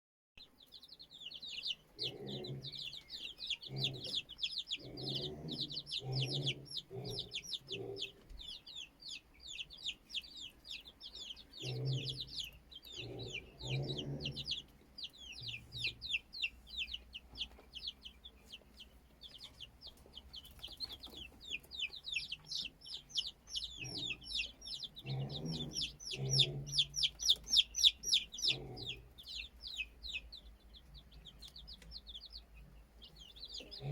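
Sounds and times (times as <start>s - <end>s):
chicks peeping: 0.4s - 33.9s
hen clucking: 0.4s - 33.9s.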